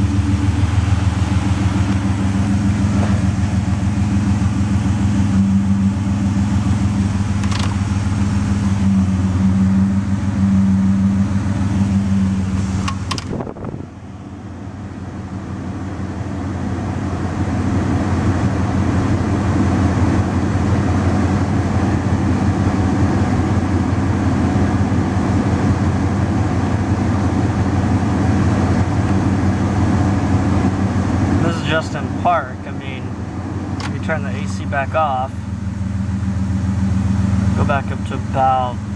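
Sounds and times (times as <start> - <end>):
car engine rough idle: 0.0 - 38.9.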